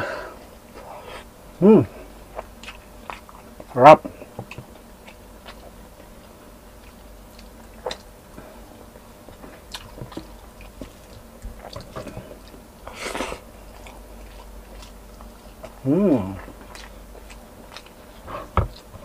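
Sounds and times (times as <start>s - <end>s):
man chewing food: 0.0s - 19.0s.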